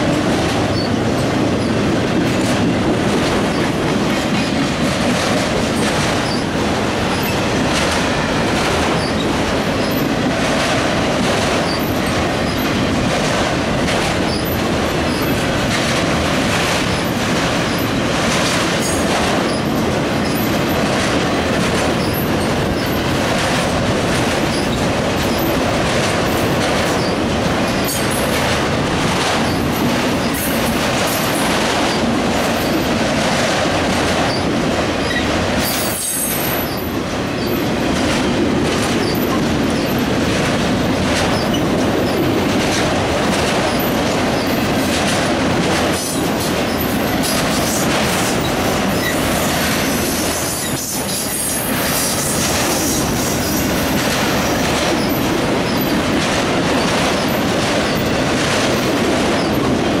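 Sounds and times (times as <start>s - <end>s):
rattling train car bodies: 0.0s - 60.0s
steel wheels clattering on rails: 0.0s - 60.0s.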